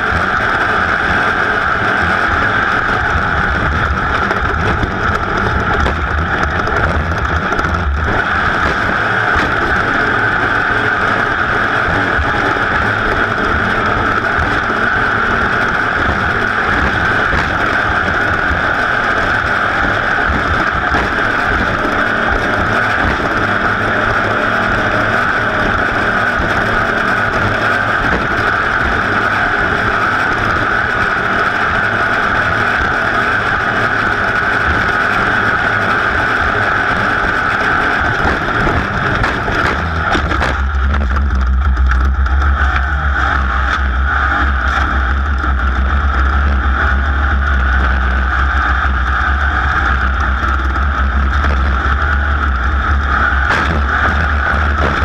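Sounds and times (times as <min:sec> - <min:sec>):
deep low rumble: 0:00.0 - 0:55.0
racing engine at high revs: 0:00.0 - 0:55.0.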